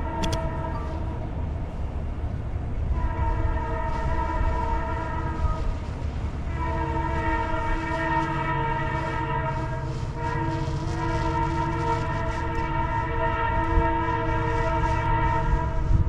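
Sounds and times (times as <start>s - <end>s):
locomotive air horn: 0.0s - 1.6s, 2.8s - 16.0s
train rumbling: 0.0s - 16.0s.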